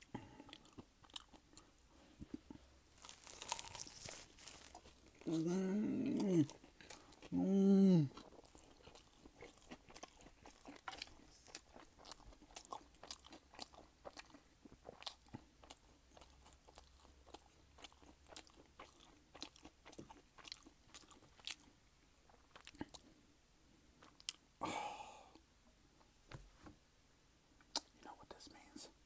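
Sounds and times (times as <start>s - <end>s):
person chewing crunchy food: 0.0s - 23.2s, 24.0s - 24.5s.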